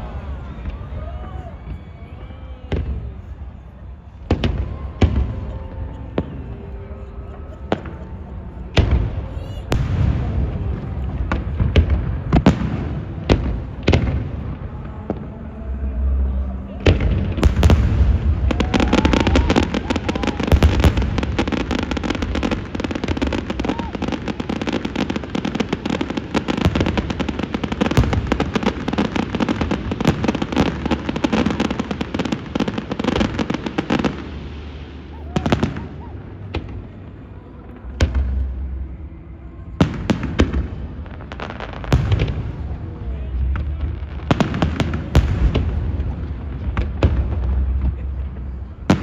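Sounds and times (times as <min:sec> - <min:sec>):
fireworks bangs: 0:00.0 - 0:15.5, 0:16.4 - 0:39.0, 0:39.7 - 0:49.0
fireworks crackling: 0:00.0 - 0:39.0, 0:39.7 - 0:49.0
low rumbling: 0:00.0 - 0:49.0.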